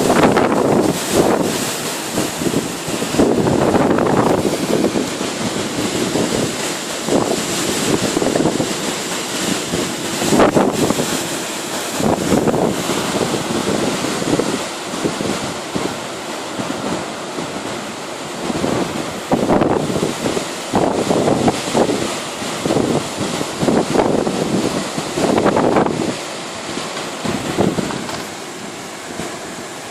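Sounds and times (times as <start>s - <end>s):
storm wind gusting: 0.0s - 29.9s.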